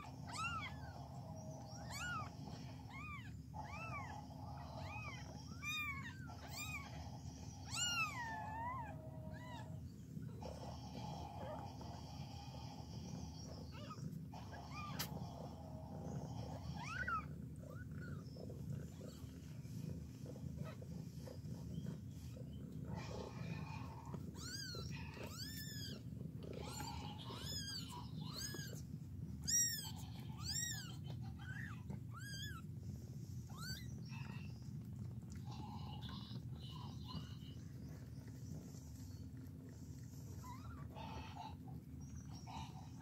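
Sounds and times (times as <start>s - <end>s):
cat purring: 0.0s - 43.0s.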